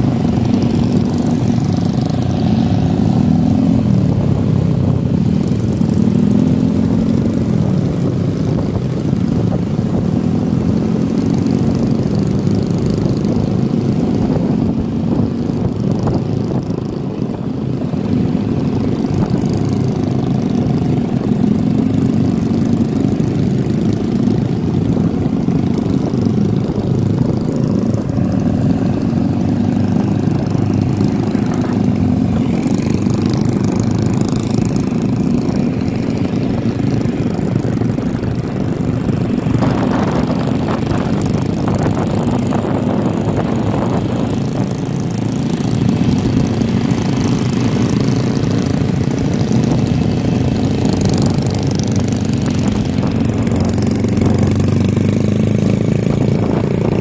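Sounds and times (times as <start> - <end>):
motorcycle engines running: 0.0 - 57.0.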